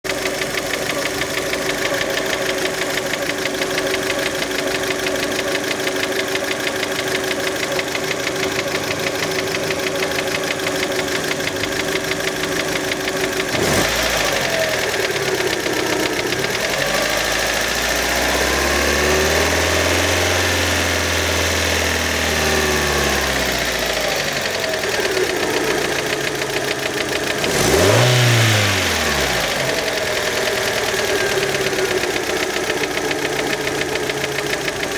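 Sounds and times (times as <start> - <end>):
knocking petrol engine idling and revving: 0.0 - 34.9.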